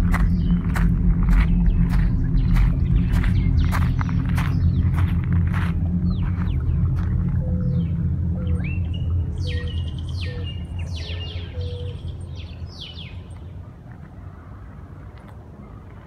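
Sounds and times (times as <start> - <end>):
low rumble: 0.0 - 15.0
birds chirping: 0.0 - 16.0.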